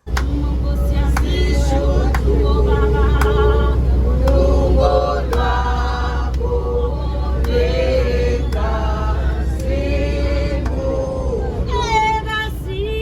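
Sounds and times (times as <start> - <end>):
bus engine rumble: 0.0 - 13.0
passengers singing a hymn: 0.0 - 13.0.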